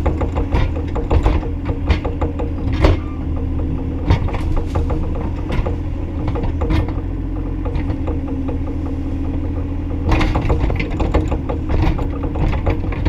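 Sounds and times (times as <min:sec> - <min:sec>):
excavator diesel engine running: 0:00.0 - 0:13.0
sharp metallic knocks and clanks: 0:00.0 - 0:13.0.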